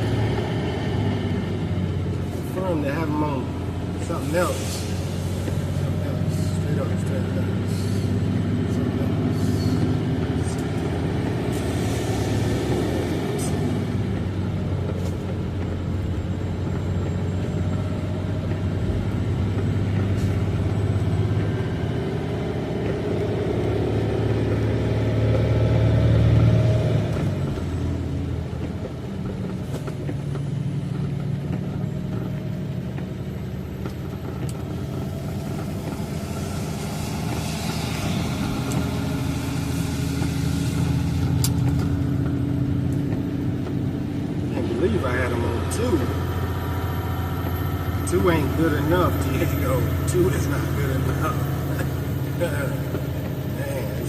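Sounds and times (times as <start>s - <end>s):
diesel engine braking drone: 0.0s - 54.0s.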